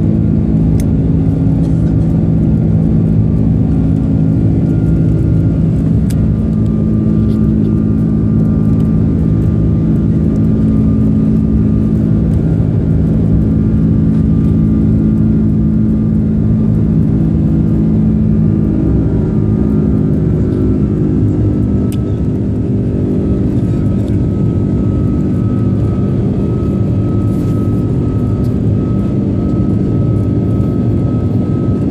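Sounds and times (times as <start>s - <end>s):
jet engine drone in cabin: 0.0s - 31.9s.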